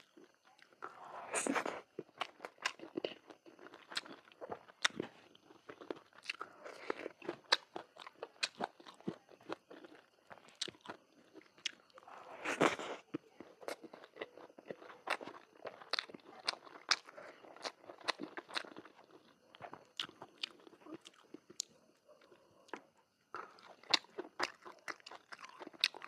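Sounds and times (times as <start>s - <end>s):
chewing and crunching food: 0.0s - 26.0s.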